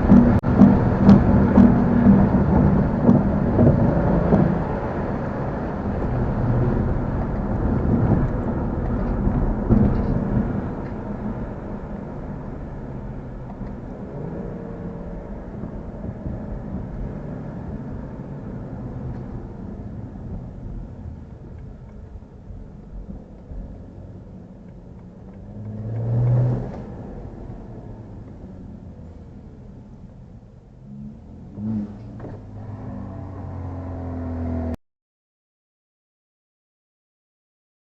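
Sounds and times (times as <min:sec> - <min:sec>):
car engine and exhaust: 0:00.0 - 0:34.8.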